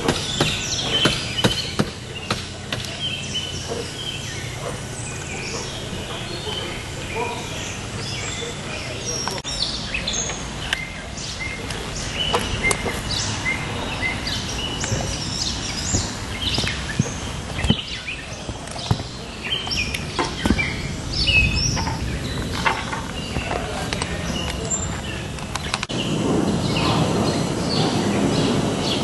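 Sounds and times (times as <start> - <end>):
songbirds chirping: 0.0 - 29.0
steady low rumble: 0.0 - 29.0.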